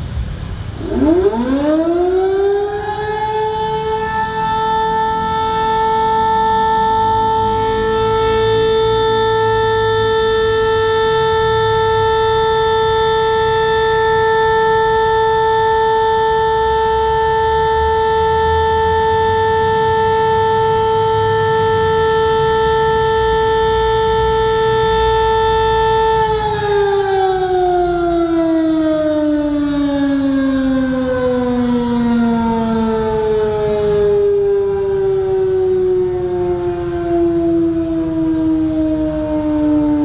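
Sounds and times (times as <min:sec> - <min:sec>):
town siren long steady tone: 0:00.0 - 0:40.0.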